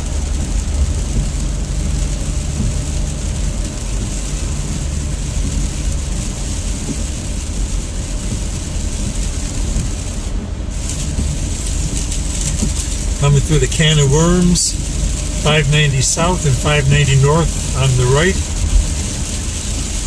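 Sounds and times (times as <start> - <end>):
rain on car: 0.0 - 20.0
road rumble inside car: 0.0 - 20.0
tyres hissing on wet pavement: 0.0 - 20.0.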